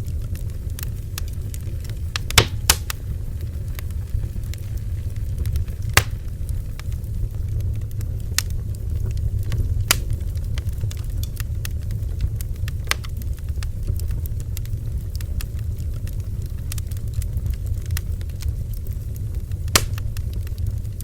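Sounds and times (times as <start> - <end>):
bonfire burning: 0.0 - 21.0
crackles and pops of burning wood: 0.0 - 21.0.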